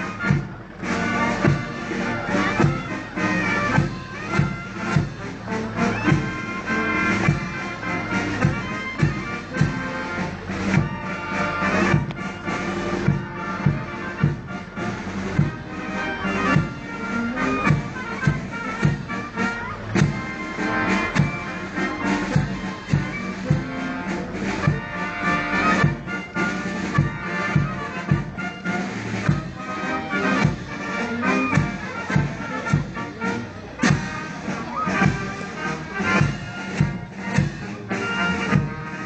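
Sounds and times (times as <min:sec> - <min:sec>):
steady drum beat: 0:00.0 - 0:39.0
wind band playing a slow march: 0:00.0 - 0:39.0.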